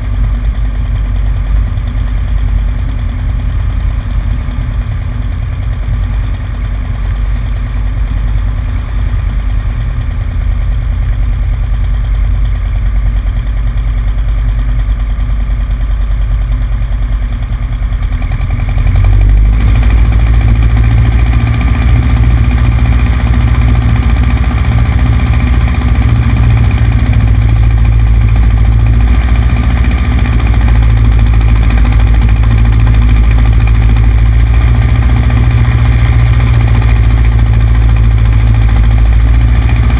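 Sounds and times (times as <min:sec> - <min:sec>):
propeller aircraft engine running: 0:00.0 - 0:39.9.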